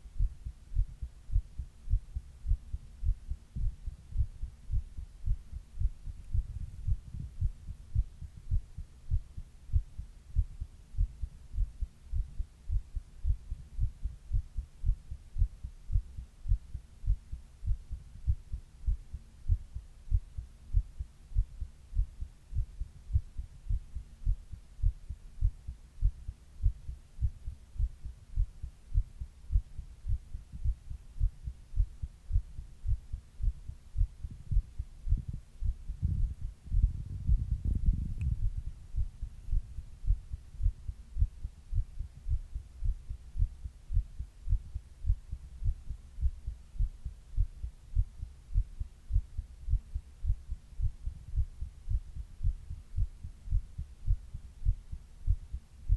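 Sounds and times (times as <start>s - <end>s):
heartbeat thumps: 0.0s - 55.9s.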